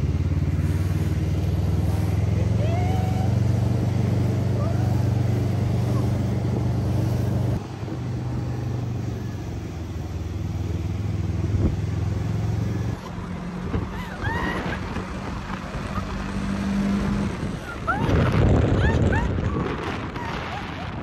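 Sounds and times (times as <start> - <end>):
go-kart engines droning: 0.0 - 21.0.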